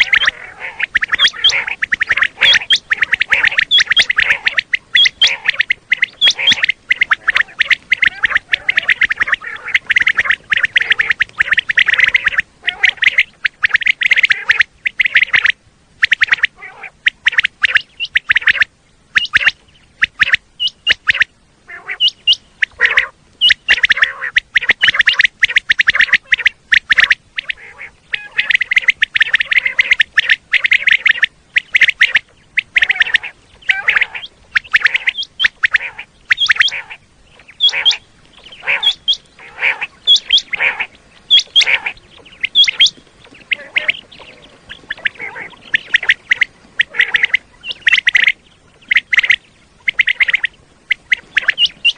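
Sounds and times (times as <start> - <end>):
quail calling: 0.0 - 51.9.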